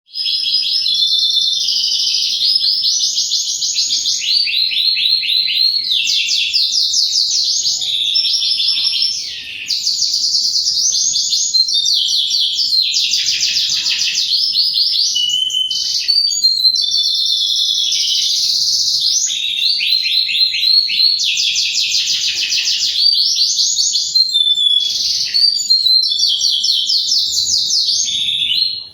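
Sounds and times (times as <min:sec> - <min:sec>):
canary singing: 0:00.0 - 0:28.9.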